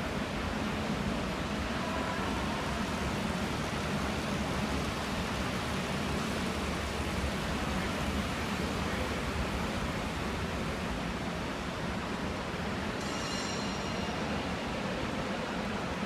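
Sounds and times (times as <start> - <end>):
indoor velodrome rushing ambience: 0.0 - 16.0.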